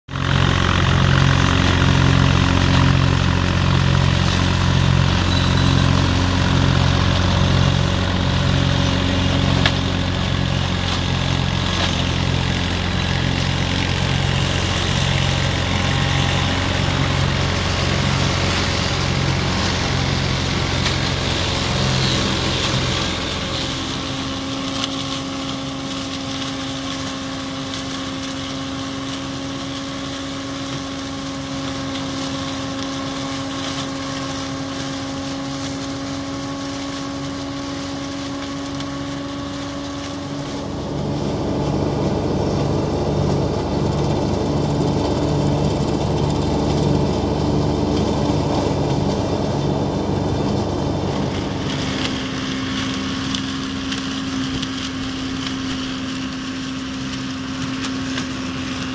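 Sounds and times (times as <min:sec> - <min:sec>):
flail mower chopping stalks: 0:00.1 - 0:58.9
tractor diesel engine: 0:00.1 - 0:58.9.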